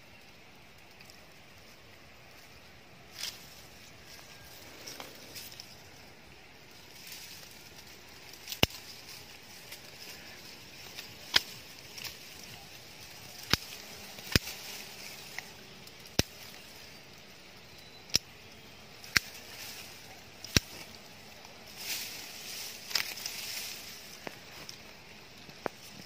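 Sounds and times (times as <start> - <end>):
rustle of leaves and brush: 0.0 - 26.0
twigs and branches cracking: 0.7 - 26.0.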